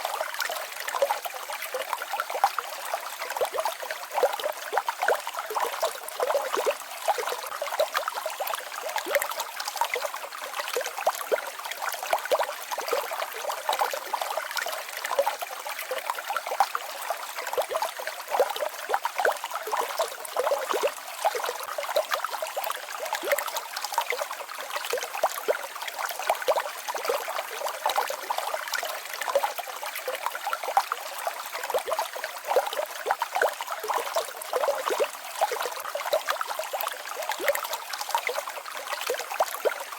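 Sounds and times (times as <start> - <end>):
small waterfall babbling: 0.0 - 39.9.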